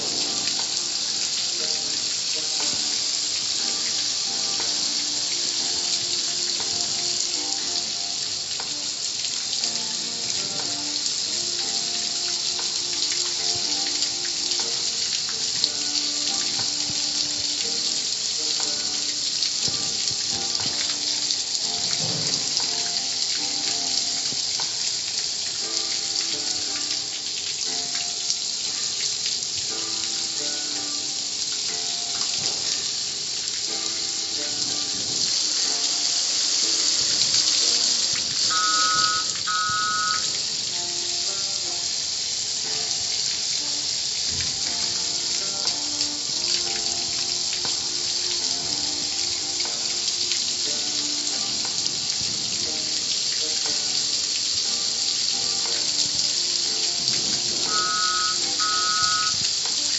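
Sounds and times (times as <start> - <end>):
car wash water jets spraying: 0.0 - 59.9
music playing: 0.0 - 59.9.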